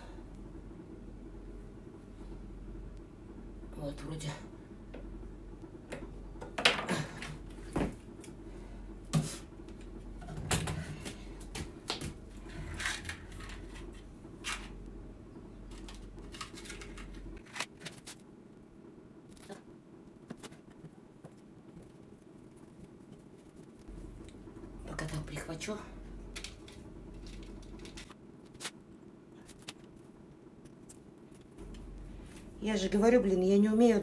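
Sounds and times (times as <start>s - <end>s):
low background hum: 0.0s - 34.0s.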